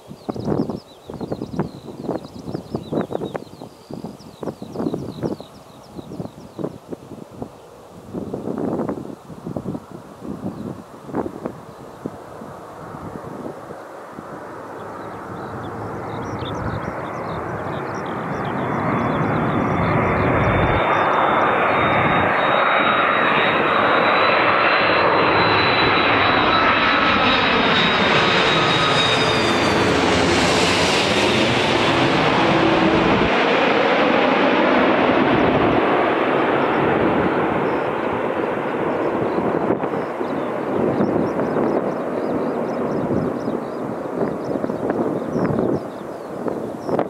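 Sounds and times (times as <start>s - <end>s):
airliner passing low overhead: 0.0s - 47.0s
high jet engine whine: 0.0s - 47.0s.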